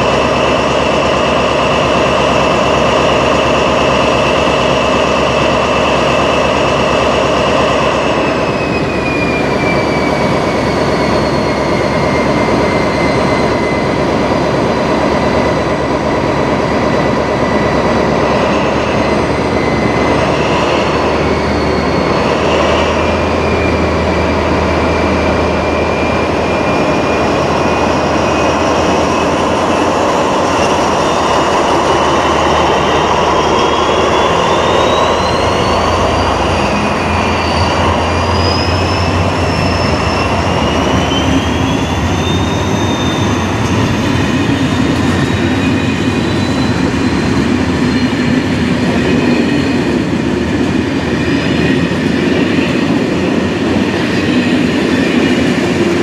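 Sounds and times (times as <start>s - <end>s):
diesel locomotive engine hum: 0.0s - 56.0s
locomotive whine: 0.0s - 56.0s
train wheels rumbling on rails: 0.0s - 56.0s.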